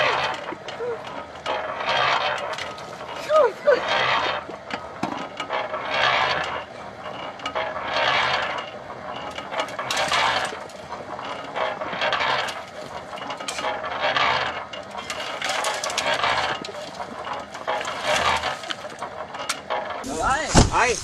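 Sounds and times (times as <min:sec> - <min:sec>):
cement mixer drum turning: 0:00.0 - 0:21.0
low motor hum: 0:00.0 - 0:21.0.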